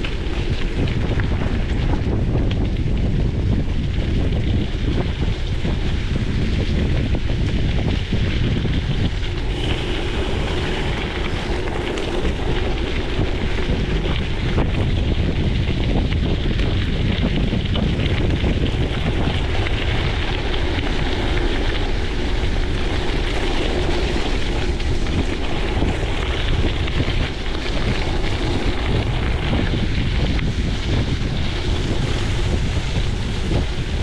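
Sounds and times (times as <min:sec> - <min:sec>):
tyres rolling on gravel: 0:00.0 - 0:34.0
wind buffeting microphone: 0:00.0 - 0:34.0.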